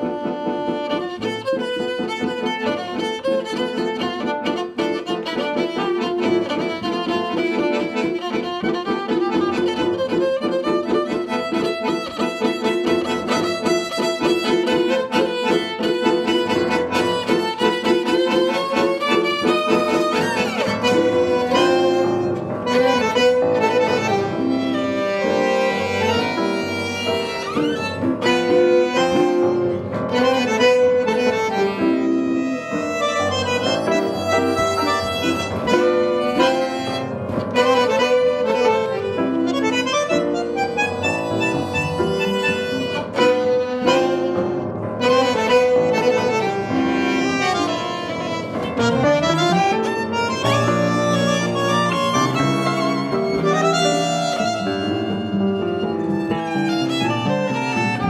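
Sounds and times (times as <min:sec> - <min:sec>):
piano: 0:00.0 - 0:58.0
violin playing lead: 0:00.0 - 0:58.0.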